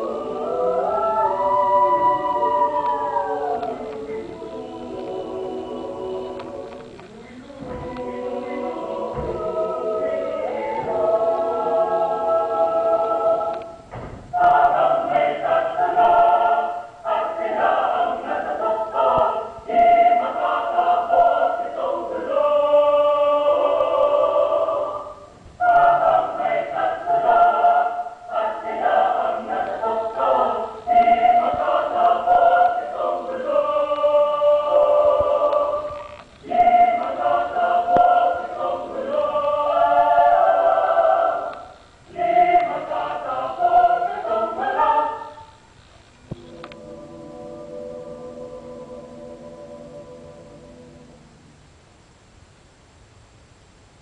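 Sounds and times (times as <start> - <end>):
mixed choir singing: 0.0 - 51.6.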